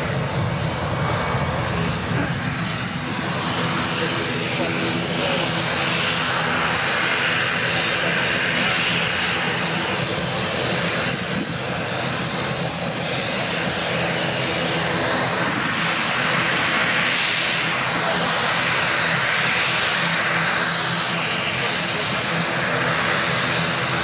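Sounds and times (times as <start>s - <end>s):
high jet engine whine: 0.0s - 24.0s
jet engines roaring at takeoff: 0.0s - 24.0s.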